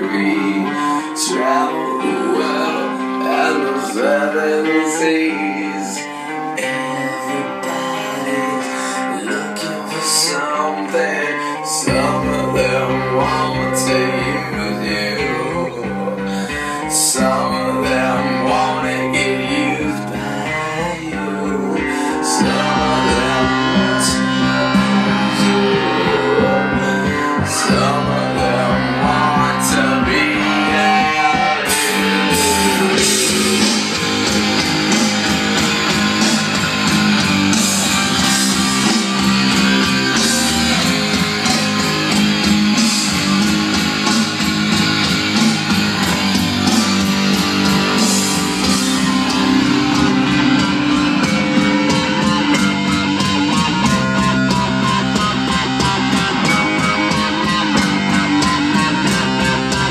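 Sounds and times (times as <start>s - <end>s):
strummed guitar music: 0.0s - 59.9s.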